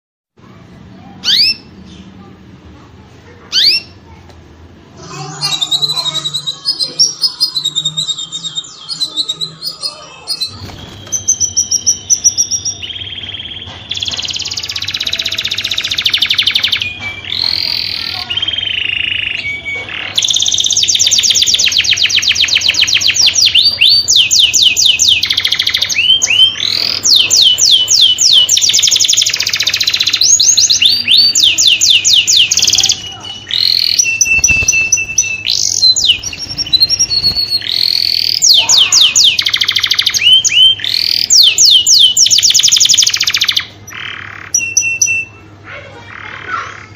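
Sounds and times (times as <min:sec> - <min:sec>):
canary singing trills: 0:00.5 - 0:02.5, 0:03.4 - 0:04.2, 0:04.9 - 0:46.9.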